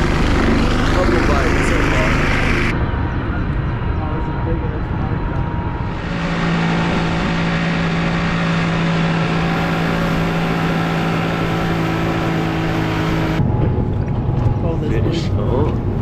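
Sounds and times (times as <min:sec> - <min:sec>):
boat motor humming: 0:00.0 - 0:04.2, 0:05.2 - 0:16.0.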